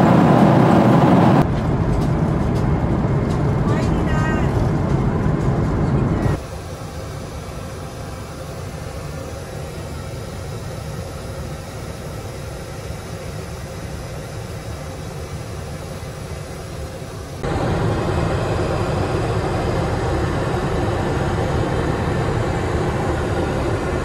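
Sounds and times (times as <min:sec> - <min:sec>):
airliner cabin rumble and hiss: 0:00.0 - 0:24.0.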